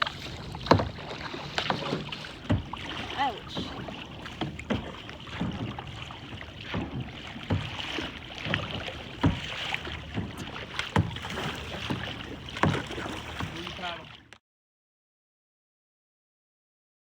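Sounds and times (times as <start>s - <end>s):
paddle splashing in water: 0.0s - 14.4s.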